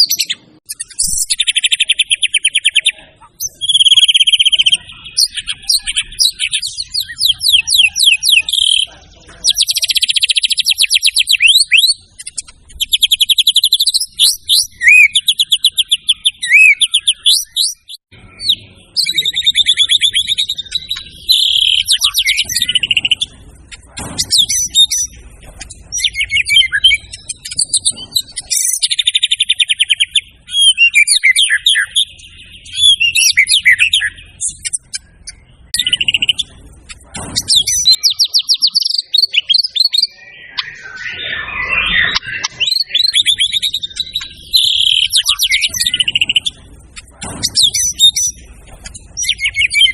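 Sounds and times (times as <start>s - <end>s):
songbird singing trills and whistles: 0.0s - 49.9s.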